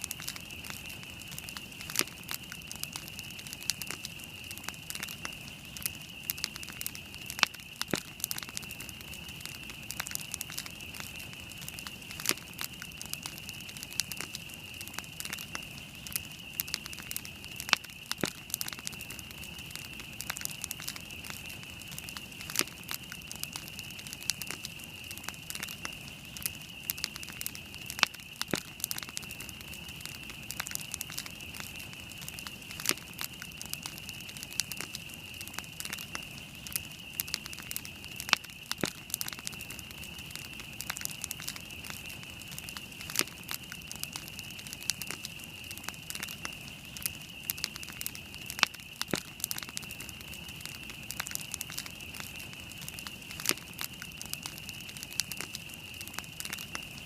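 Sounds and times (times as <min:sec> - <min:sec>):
campfire crackling and popping: 0:00.0 - 0:57.0
steady high-pitched hiss: 0:00.0 - 0:57.0.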